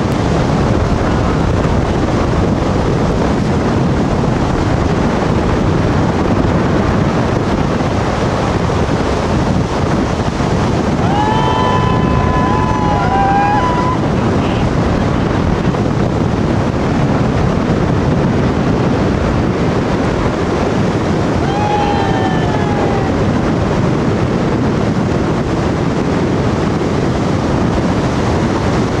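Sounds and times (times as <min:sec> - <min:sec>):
fast river rushing: 0:00.0 - 0:29.0
wind buffeting microphone: 0:00.0 - 0:29.0.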